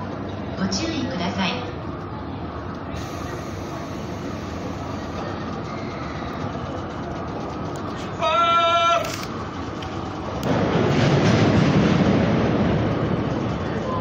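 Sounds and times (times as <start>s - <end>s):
station platform noise: 0.0s - 14.0s
rush of noise: 1.8s - 14.0s.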